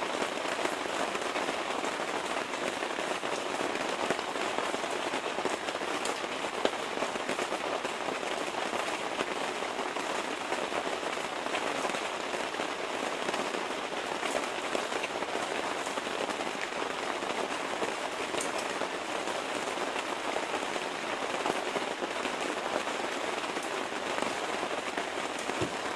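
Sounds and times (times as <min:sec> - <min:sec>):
rain on water and deck: 0:00.0 - 0:25.9.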